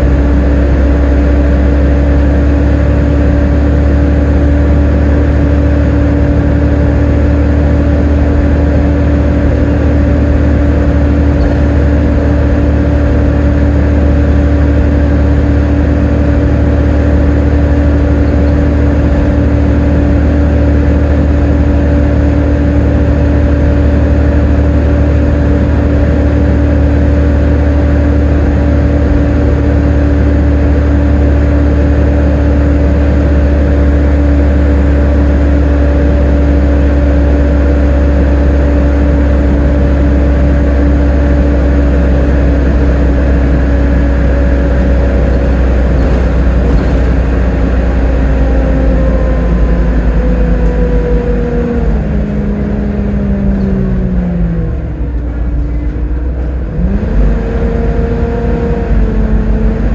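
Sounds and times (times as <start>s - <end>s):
bus drivetrain whine: 0.0s - 59.9s.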